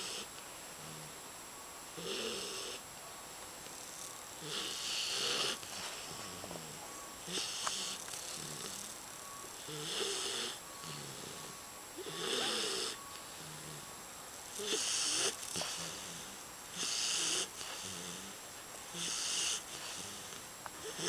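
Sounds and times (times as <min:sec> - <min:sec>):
puppy snoring: 0:00.0 - 0:01.2, 0:01.9 - 0:02.8, 0:03.8 - 0:21.0.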